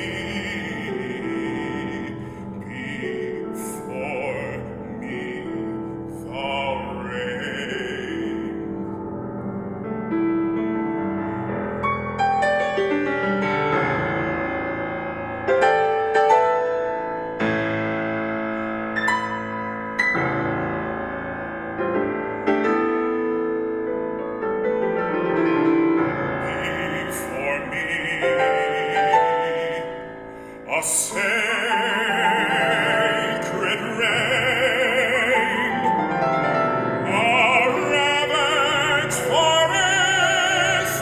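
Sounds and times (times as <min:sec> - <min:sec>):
solo piano chords and notes: 0:00.0 - 0:41.0.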